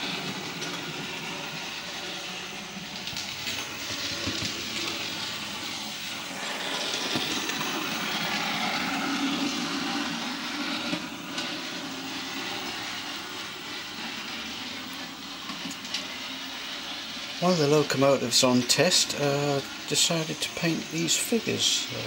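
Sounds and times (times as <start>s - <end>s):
model train motor hum: 0.0s - 22.0s.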